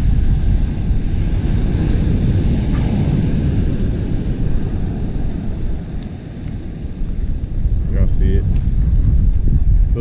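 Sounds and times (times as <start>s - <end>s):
surf breaking on shore: 0.0s - 10.0s
wind buffeting microphone: 0.0s - 10.0s.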